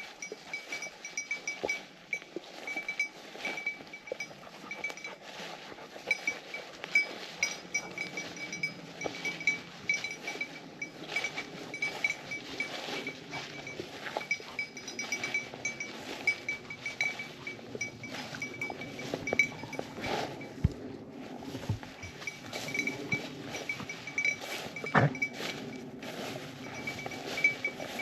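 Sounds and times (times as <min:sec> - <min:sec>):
small bell jingling: 0:00.0 - 0:20.6, 0:21.8 - 0:28.0
footsteps through dry grass: 0:00.0 - 0:28.0.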